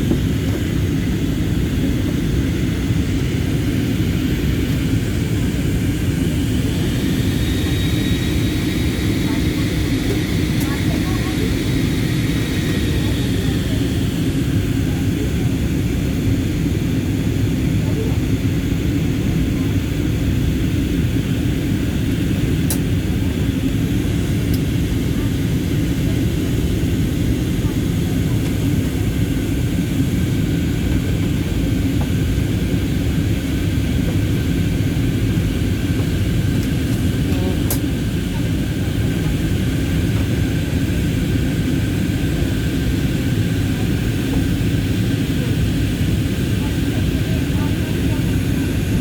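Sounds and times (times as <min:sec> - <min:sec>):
airplane cabin engine noise: 0:00.0 - 0:49.0.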